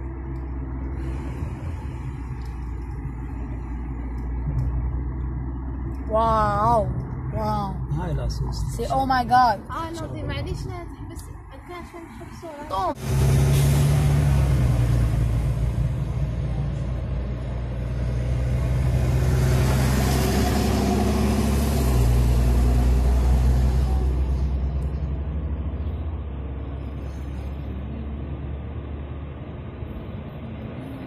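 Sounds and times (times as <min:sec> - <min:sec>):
tyre and road noise: 0:00.0 - 0:31.0.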